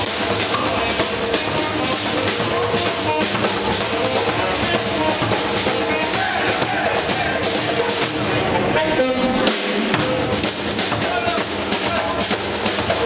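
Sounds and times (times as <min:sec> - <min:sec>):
drum ensemble playing: 0:00.0 - 0:13.0.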